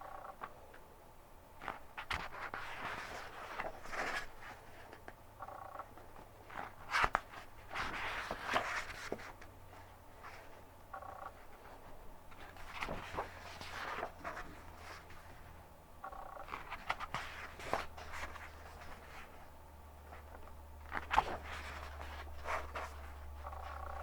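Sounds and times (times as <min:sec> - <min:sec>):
book pages turning: 0:01.6 - 0:05.2, 0:06.1 - 0:10.6, 0:11.3 - 0:15.5, 0:16.1 - 0:19.5, 0:20.1 - 0:24.0.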